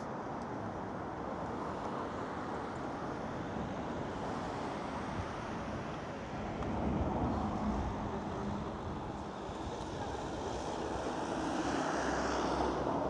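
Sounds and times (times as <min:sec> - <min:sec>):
road traffic rush: 0:00.0 - 0:13.0.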